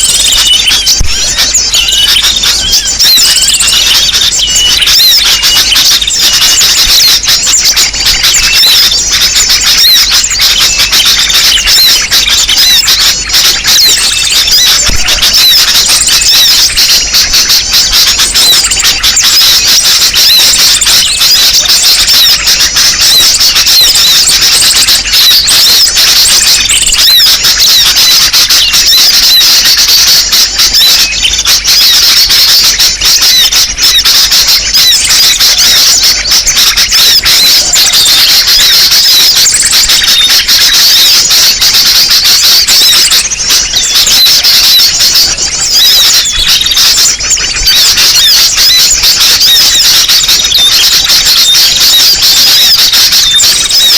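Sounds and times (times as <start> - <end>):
many small birds chirping: 0.0 - 53.9.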